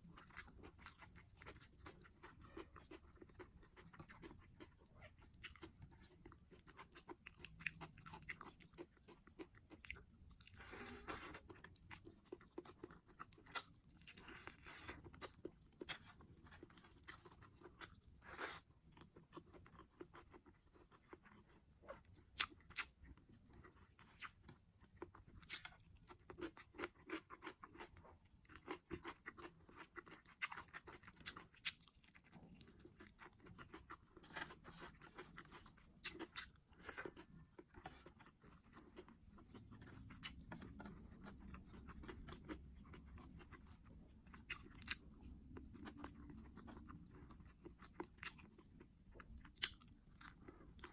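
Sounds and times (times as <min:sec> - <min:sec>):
chewing food crunches: 0:00.0 - 0:50.9.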